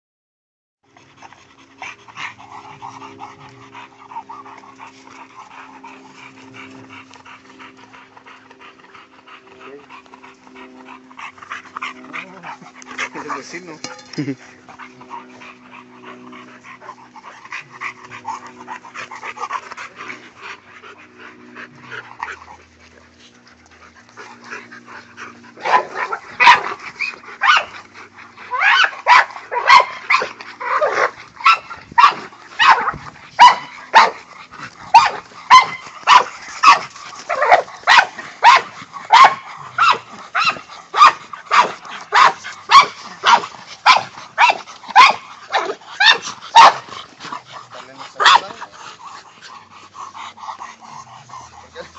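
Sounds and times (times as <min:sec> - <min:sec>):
dogs barking: 0:01.3 - 0:22.9, 0:23.7 - 0:51.9.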